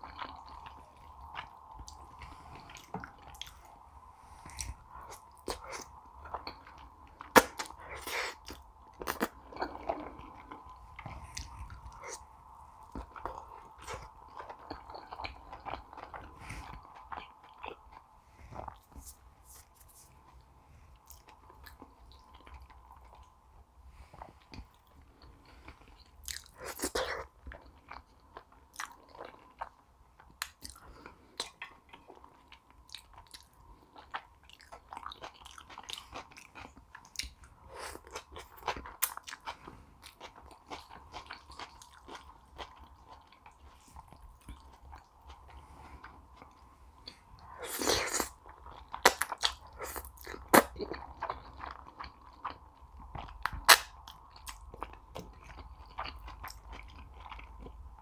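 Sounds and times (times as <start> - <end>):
close chewing and mouth clicks: 0.0 - 58.0.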